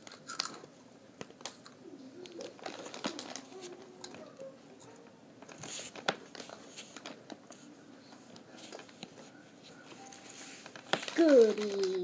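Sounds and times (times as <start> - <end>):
handling clicks and crinkles: 0.0 - 12.0.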